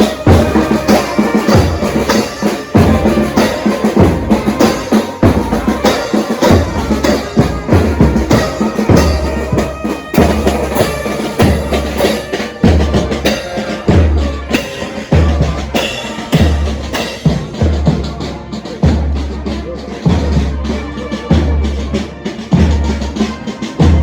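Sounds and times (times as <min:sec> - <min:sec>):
parade band music: 0:00.0 - 0:24.0.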